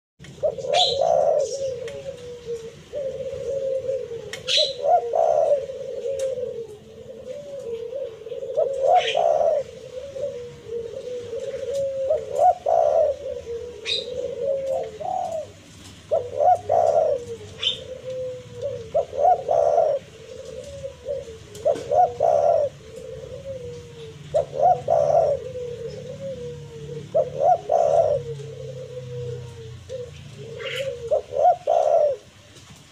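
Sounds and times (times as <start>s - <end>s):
dove cooing: 0.2s - 32.9s.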